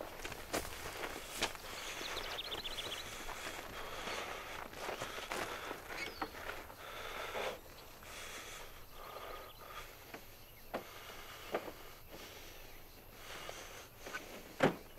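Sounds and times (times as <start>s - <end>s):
faint outdoor ambience: 0.0s - 14.9s.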